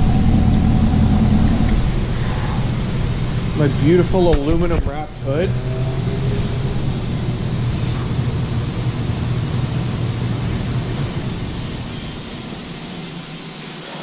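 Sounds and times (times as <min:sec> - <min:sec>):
hiss: 0:00.0 - 0:05.4, 0:07.0 - 0:14.0
vehicle engine hum: 0:00.0 - 0:13.4.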